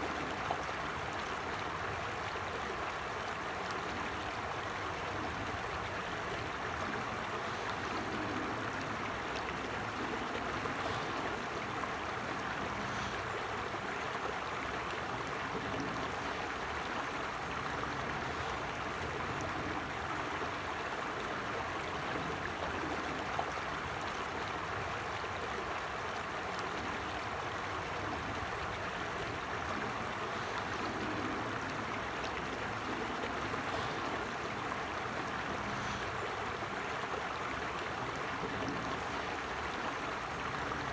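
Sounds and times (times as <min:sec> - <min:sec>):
stream rushing and gurgling: 0:00.0 - 0:40.9.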